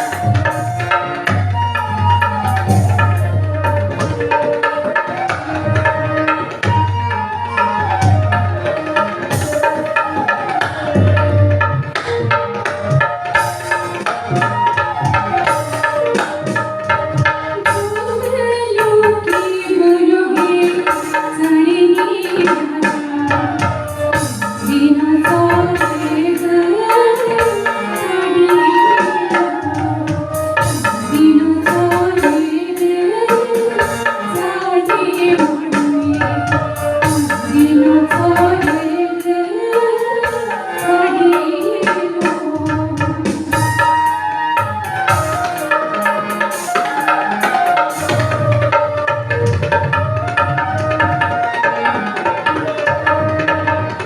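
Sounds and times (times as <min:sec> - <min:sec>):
hand drum rhythm: 0:00.0 - 0:54.0
wavering folk melody: 0:00.0 - 0:54.0.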